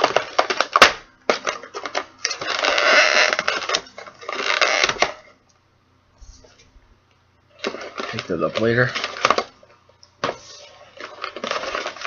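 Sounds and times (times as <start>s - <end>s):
plastic packaging crinkling: 0.0s - 5.3s, 7.5s - 12.0s.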